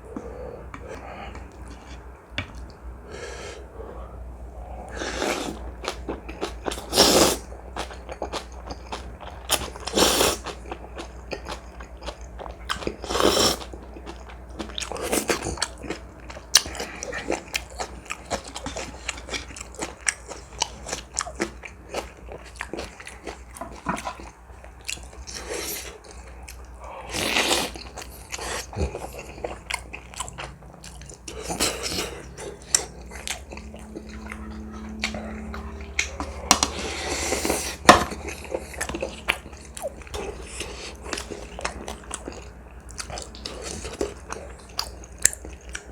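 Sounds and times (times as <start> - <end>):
chewing and biting: 5.4 - 45.9.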